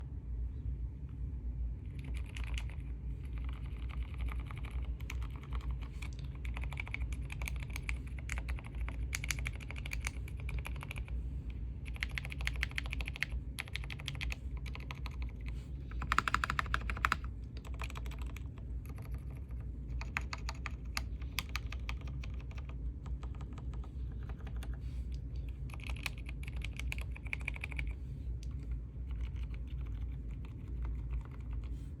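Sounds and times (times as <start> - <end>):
steady low hum: 0.0 - 32.0
typing on computer keyboard: 2.0 - 11.1, 11.8 - 24.7, 25.7 - 27.9, 29.1 - 31.7.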